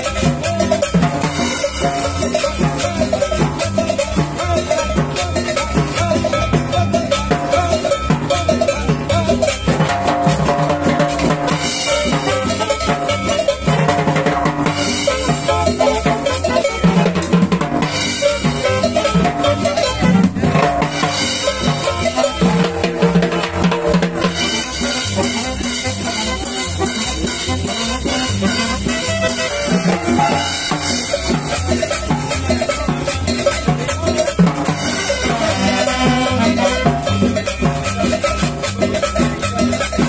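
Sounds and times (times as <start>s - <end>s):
street band playing cumbia: 0.0s - 40.0s.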